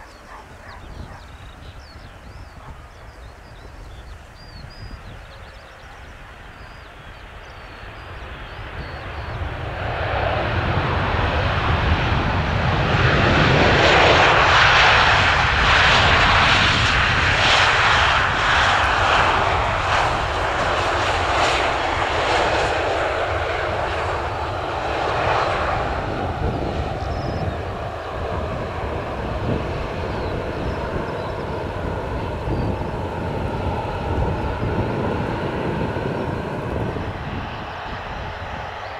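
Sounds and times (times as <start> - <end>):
jet engines of landing airliner: 0.0 - 38.9.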